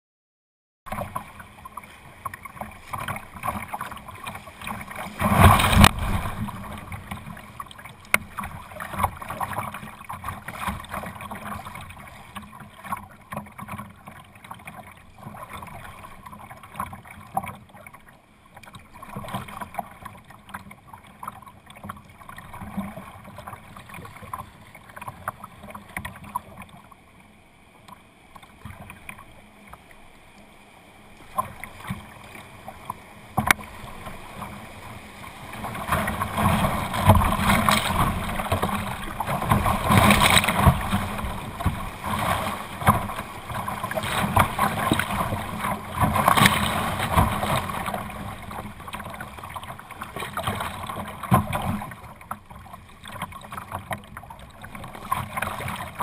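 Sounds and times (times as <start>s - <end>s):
kayak paddle strokes: 0.9s - 27.0s, 27.8s - 56.0s
water lapping against hull: 0.9s - 56.0s.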